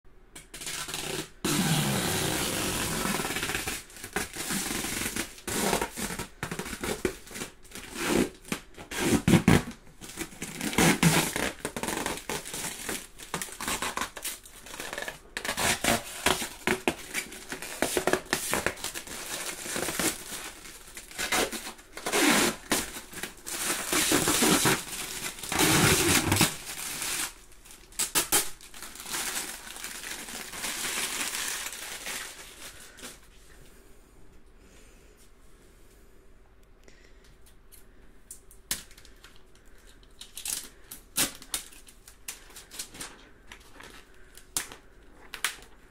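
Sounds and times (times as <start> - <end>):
plastic film peeling and crackling: 0.4 - 33.3, 38.4 - 45.9.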